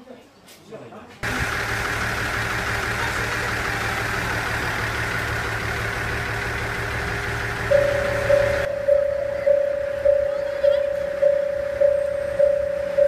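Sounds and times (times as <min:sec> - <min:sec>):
diesel railcar engine idling: 0:01.2 - 0:13.0.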